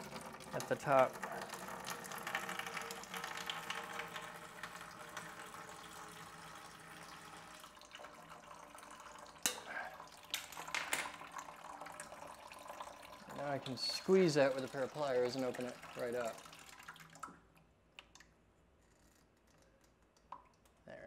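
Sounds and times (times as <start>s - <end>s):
water trickling into bucket: 0.0s - 18.4s.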